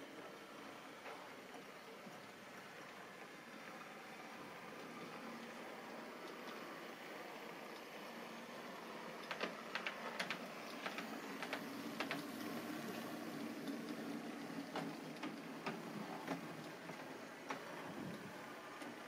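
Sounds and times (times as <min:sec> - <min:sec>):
model train motor hum: 0:00.0 - 0:19.0
wheels clicking on rails: 0:02.5 - 0:19.0.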